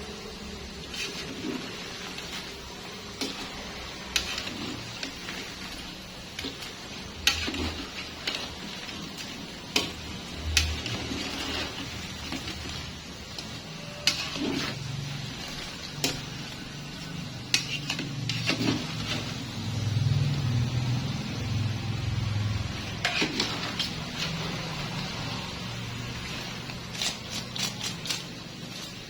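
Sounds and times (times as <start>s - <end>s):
frying hiss: 0.0s - 29.0s.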